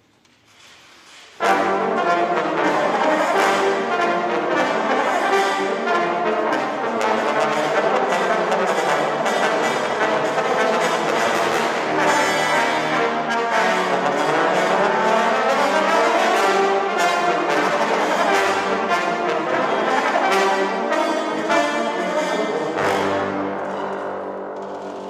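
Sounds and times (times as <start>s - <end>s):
trombone ensemble playing chords: 1.4s - 24.5s.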